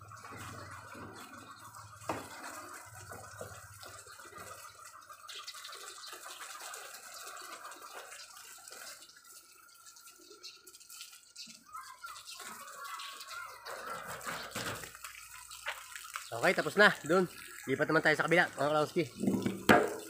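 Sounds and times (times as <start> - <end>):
hose spraying water on leaves: 0.0 - 20.0.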